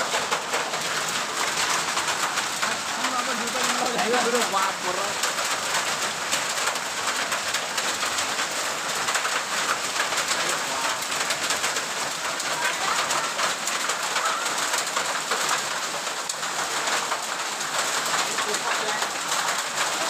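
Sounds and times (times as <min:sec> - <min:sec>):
heavy rain and hail pelting: 0:00.0 - 0:20.0.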